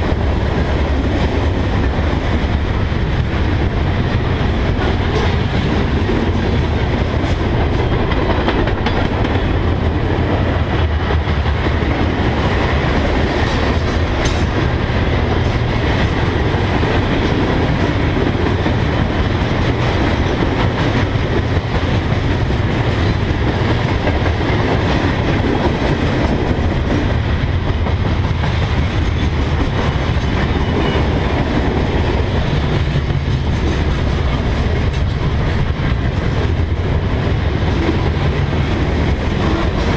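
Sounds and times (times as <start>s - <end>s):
steel wheels rolling on rails: 0.0s - 39.9s.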